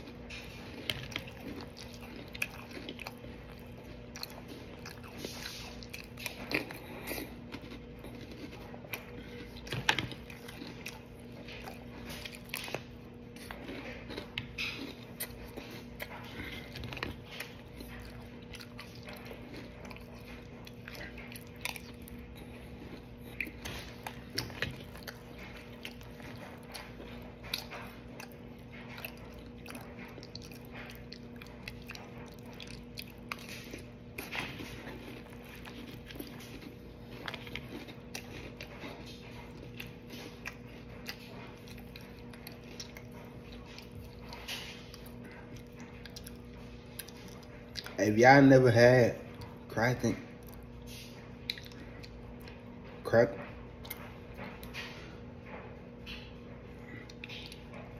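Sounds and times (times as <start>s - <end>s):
chewing crunchy cereal: 0.0s - 57.9s.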